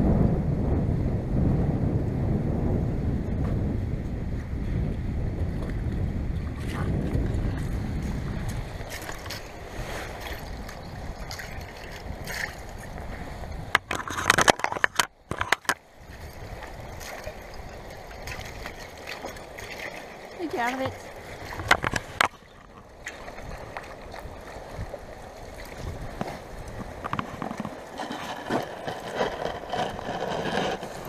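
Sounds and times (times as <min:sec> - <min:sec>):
wind rumble on microphone: 0:00.0 - 0:31.0
water lapping among slush ice: 0:05.8 - 0:31.0.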